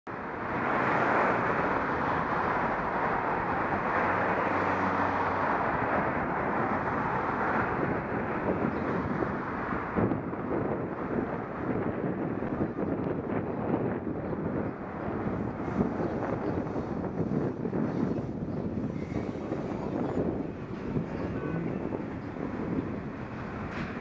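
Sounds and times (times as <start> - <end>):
wind and road noise: 0.1 - 24.0.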